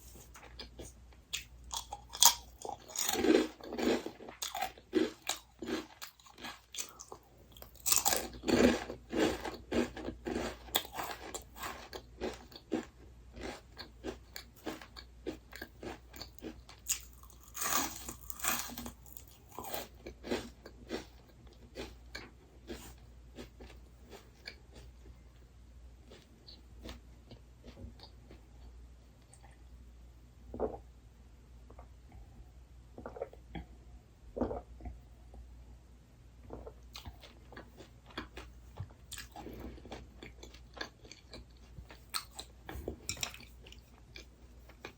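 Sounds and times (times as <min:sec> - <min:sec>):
crunchy food being chewed: 0:00.0 - 0:29.6, 0:36.4 - 0:44.9.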